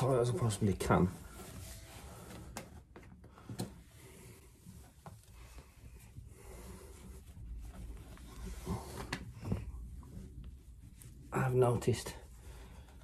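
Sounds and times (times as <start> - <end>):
cloth rubbing against pipe: 0.0 - 3.0, 3.8 - 13.0.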